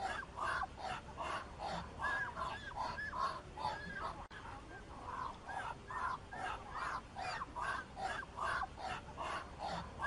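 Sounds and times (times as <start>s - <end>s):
waterfowl honking: 0.0s - 4.3s, 5.1s - 10.0s.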